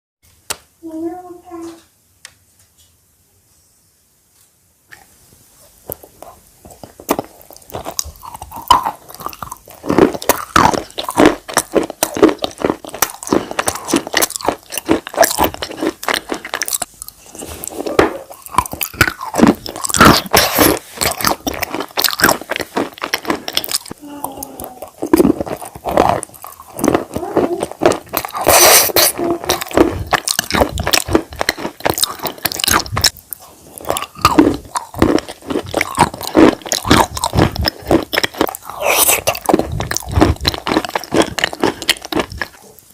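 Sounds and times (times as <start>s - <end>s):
chewing crunchy chalk: 5.8s - 24.0s, 24.8s - 42.9s.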